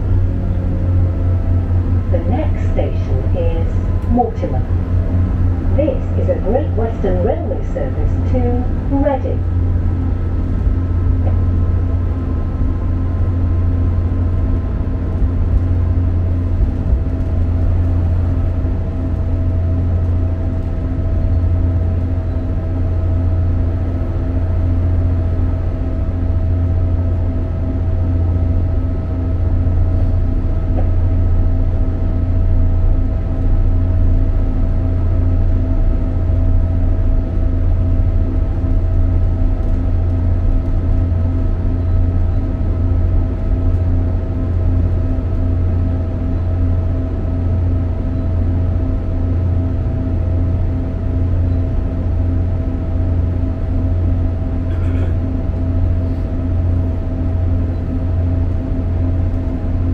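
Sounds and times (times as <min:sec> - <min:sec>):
faint steady whine: 0:00.0 - 0:59.9
train interior rumble: 0:00.0 - 0:59.9.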